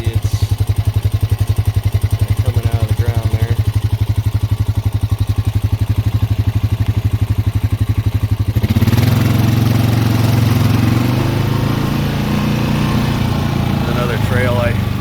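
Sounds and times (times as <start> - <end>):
atv engine chugging: 0.0 - 15.0.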